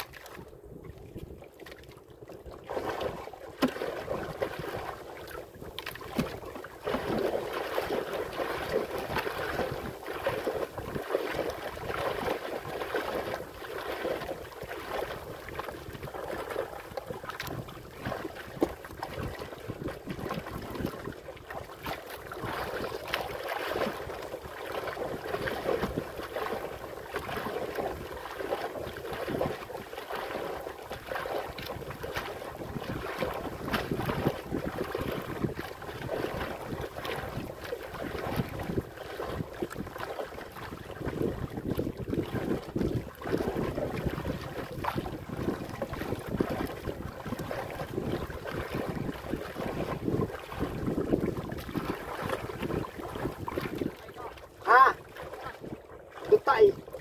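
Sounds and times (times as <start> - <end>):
water splashing against boat hull: 0.0 - 57.0
wind: 0.0 - 57.0.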